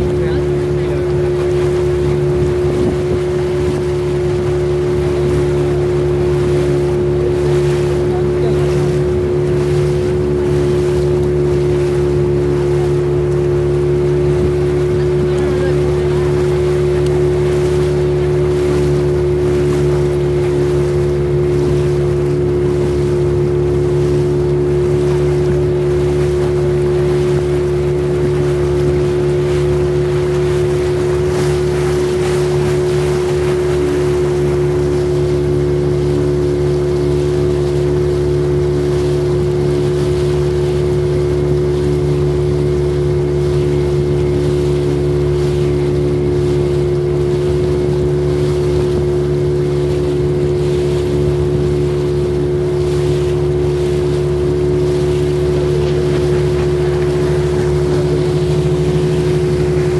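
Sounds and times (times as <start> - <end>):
motor boat engine droning: 0.0 - 59.9
water rushing along hull: 0.0 - 59.9.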